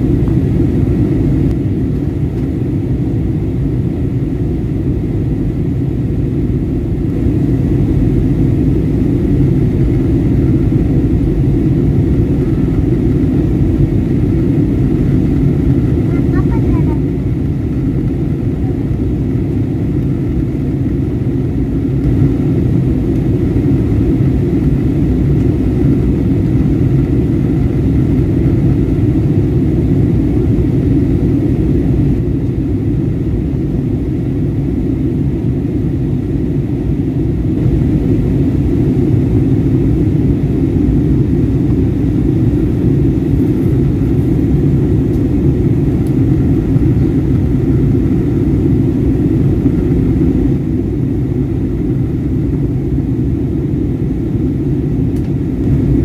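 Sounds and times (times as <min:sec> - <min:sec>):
jet engines roaring in cabin: 0:00.0 - 0:56.0.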